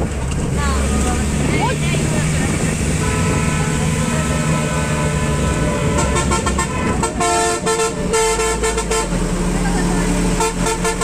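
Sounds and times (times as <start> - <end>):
vehicle engine running: 0.0 - 11.0
horn honking: 1.9 - 11.0.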